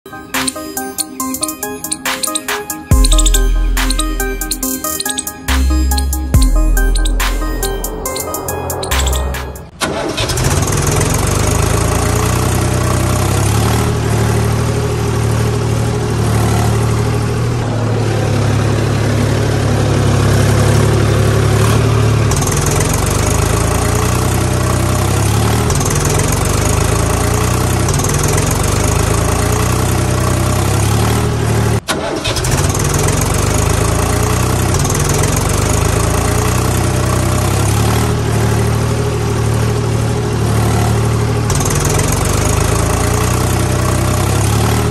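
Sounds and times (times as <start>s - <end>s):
tractor engine running: 0.1s - 44.9s.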